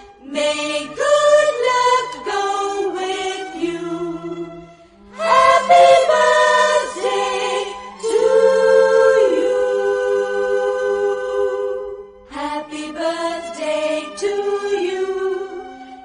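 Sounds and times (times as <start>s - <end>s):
choir-like singing: 0.0s - 16.0s.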